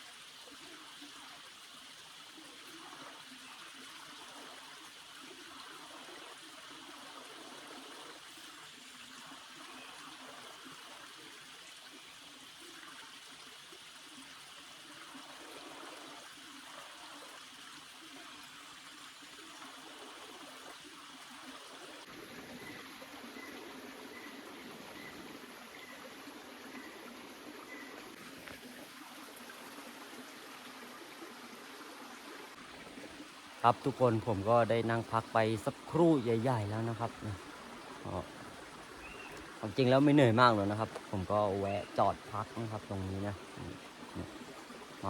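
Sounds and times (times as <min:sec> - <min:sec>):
stream trickling: 0:00.0 - 0:45.0.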